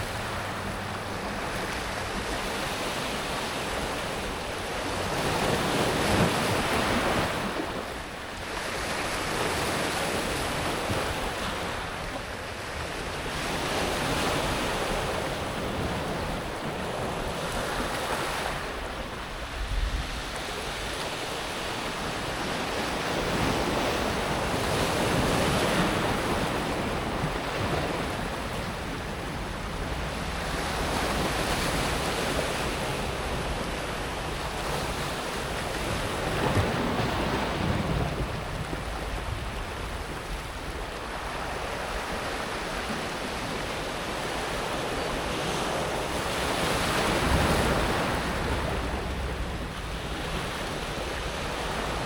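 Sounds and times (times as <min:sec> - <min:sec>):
waves on pebble beach: 0:00.0 - 0:52.0.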